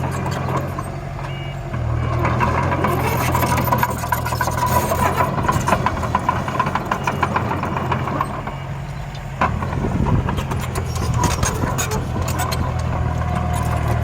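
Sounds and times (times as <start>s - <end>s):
small digger engine running: 0.0s - 14.0s.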